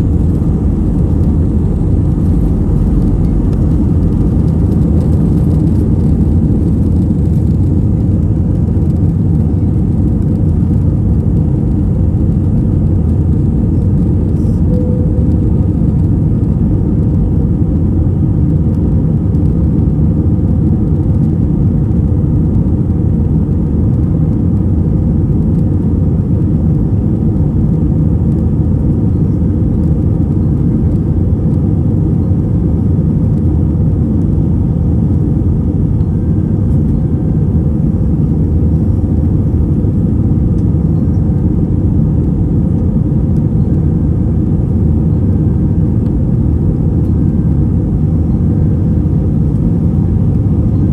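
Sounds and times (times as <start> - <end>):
jet engine rumble in cabin: 0.0 - 50.9.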